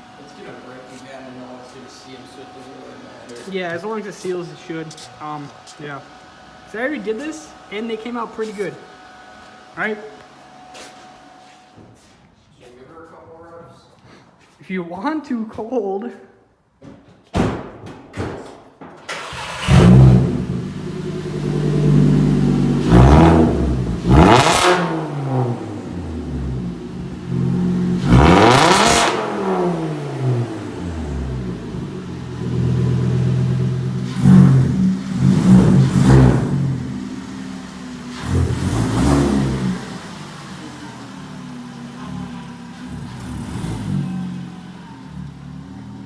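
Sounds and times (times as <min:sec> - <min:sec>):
car engine cranking and starting: 0:00.0 - 0:09.9, 0:19.0 - 0:46.0
car engine idling and revving: 0:00.0 - 0:10.7, 0:19.1 - 0:46.0.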